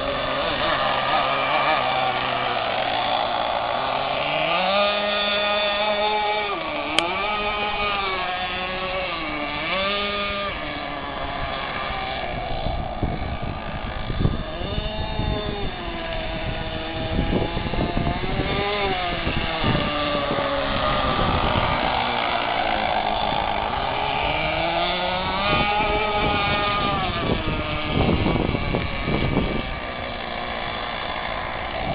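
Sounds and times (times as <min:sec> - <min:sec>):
electric motors whining: 0:00.0 - 0:31.9.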